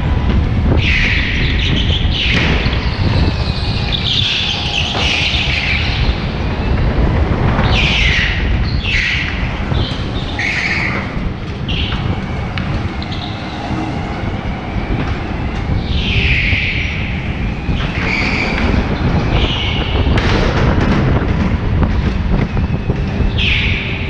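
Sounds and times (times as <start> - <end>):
kart tyres squealing: 0.0 - 20.8.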